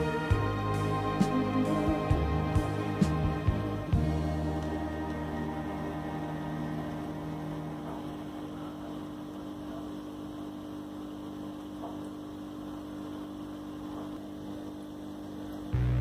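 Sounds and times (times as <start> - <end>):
loud deep electrical hum: 0.0 - 16.0
low hum with faint hiss: 0.0 - 16.0.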